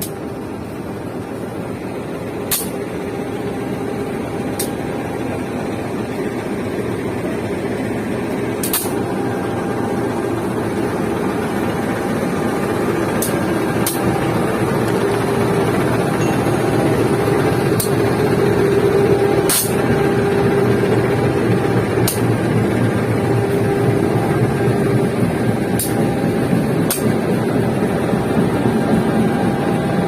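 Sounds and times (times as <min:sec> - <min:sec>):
diesel locomotive drone: 0:00.0 - 0:30.0.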